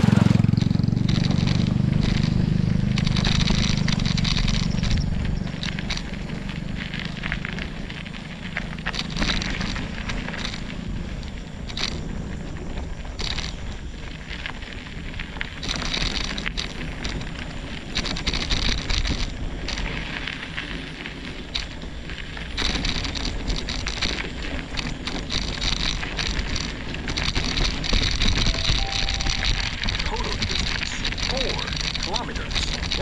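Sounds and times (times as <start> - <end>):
bike rattling: 0.0 - 33.0
tyres crackling over loose ground: 0.0 - 33.0
wind rumble on microphone: 0.0 - 33.0.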